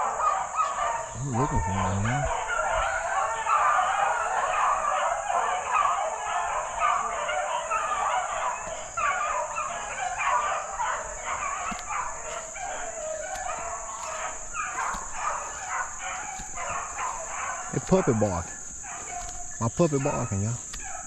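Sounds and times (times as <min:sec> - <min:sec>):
hounds baying and barking: 0:00.0 - 0:21.0.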